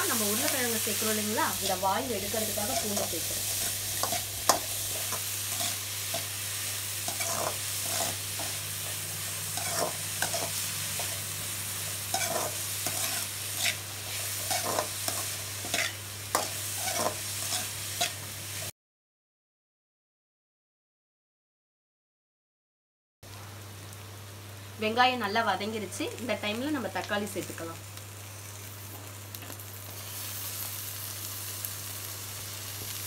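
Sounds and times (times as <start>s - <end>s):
onions sizzling in hot oil: 0.0s - 18.7s, 23.3s - 33.0s.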